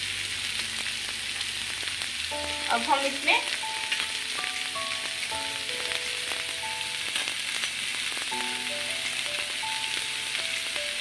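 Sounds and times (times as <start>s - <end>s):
onions sizzling in a pan: 0.0s - 11.0s
soft background music: 0.0s - 11.0s.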